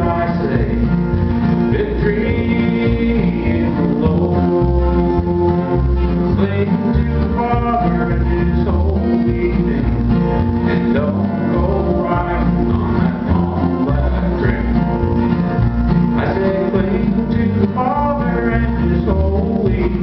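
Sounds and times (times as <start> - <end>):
acoustic guitars strumming: 0.0 - 20.0
person singing: 0.0 - 20.0
upright bass plucked: 0.0 - 20.0.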